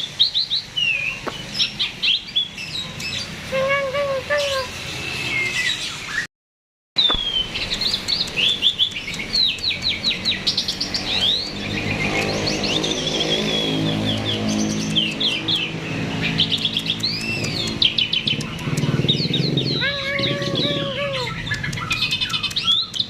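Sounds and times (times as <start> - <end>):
starling singing: 0.0 - 6.3, 7.0 - 23.0.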